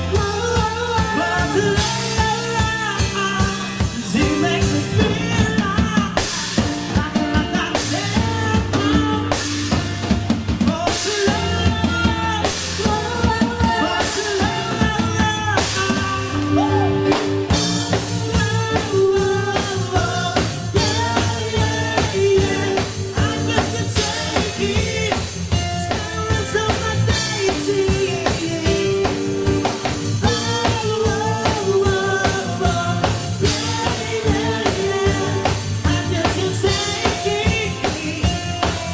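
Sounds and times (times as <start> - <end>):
person singing: 0.0 - 9.8, 10.6 - 29.4, 30.2 - 38.9
dance music with drums: 0.0 - 38.9.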